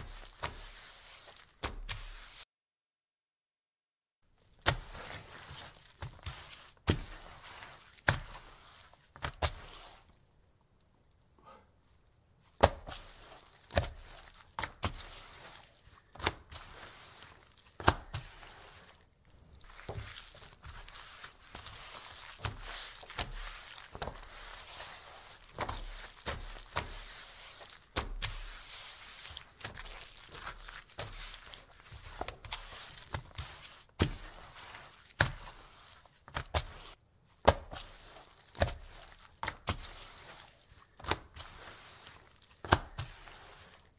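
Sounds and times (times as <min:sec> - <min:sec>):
towel swishing on a table: 0:00.0 - 0:02.5, 0:04.7 - 0:10.1, 0:12.6 - 0:19.0, 0:19.6 - 0:43.9.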